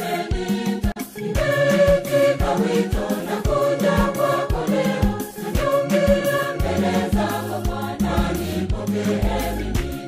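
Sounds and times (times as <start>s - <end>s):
choir singing a hymn: 0.0s - 10.0s
steady thumping beat: 0.0s - 10.0s.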